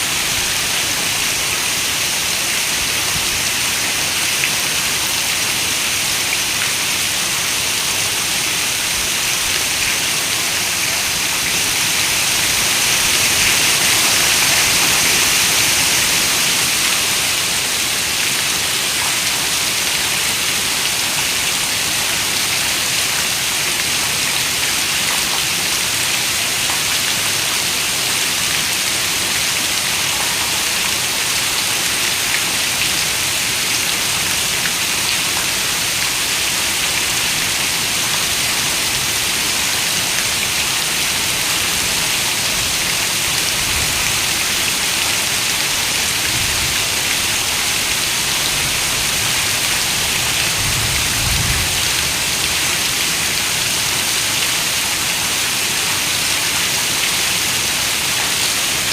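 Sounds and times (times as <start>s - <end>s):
heavy rain on a window: 7.9s - 58.9s.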